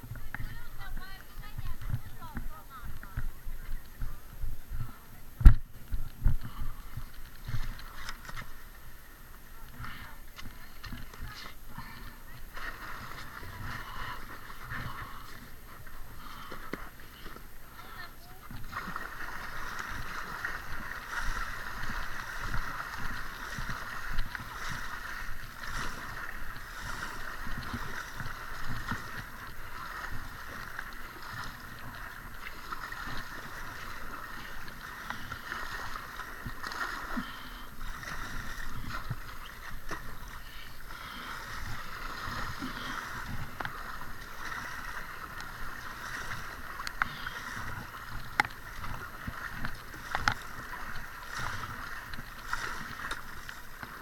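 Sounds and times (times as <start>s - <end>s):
kayak paddle splashing in water: 0.0s - 54.0s
water sloshing around kayak hull: 0.0s - 54.0s.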